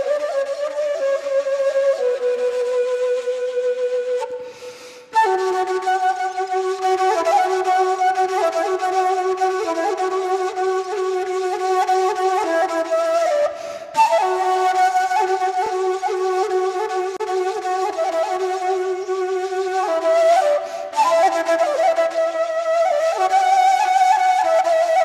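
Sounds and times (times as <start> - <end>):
slow woodwind melody: 0.0 - 25.0.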